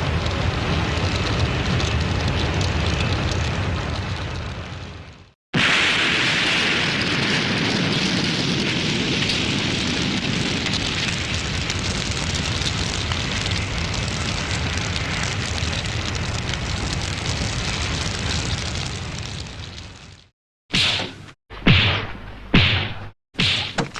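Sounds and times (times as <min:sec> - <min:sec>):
large fire crackling: 0:00.0 - 0:21.3.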